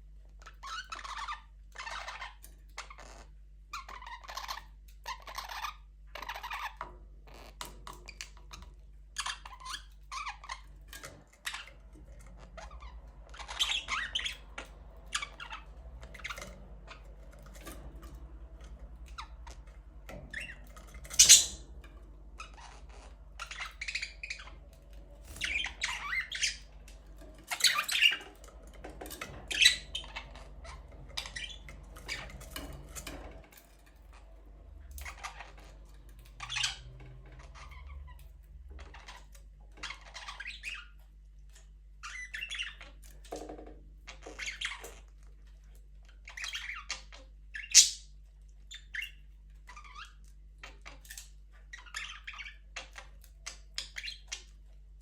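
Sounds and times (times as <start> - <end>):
budgerigars chirping and squawking: 0.5 - 33.4, 35.0 - 43.4, 44.1 - 45.2, 46.1 - 54.8.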